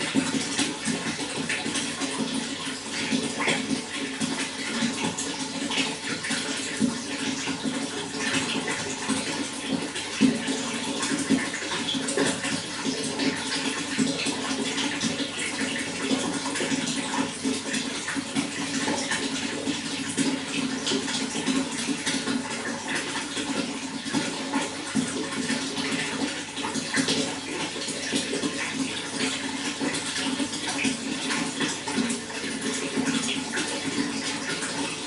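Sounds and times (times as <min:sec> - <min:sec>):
running water splashing: 0:00.0 - 0:35.0.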